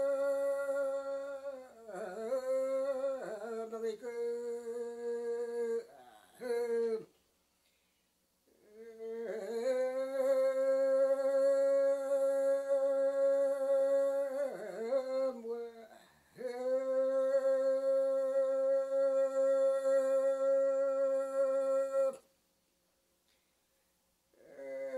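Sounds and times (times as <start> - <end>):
person singing solo chant: 0.0 - 7.2, 8.5 - 22.3, 24.3 - 24.9.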